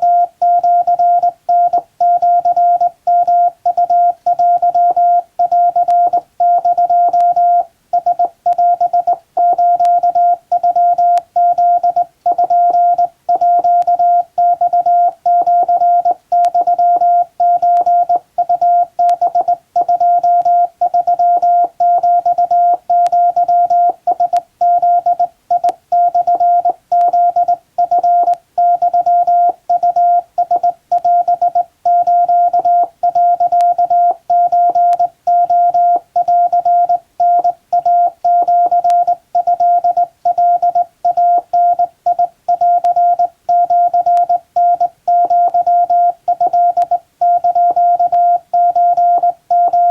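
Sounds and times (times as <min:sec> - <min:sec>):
morse code beeps: 0:00.0 - 0:49.9.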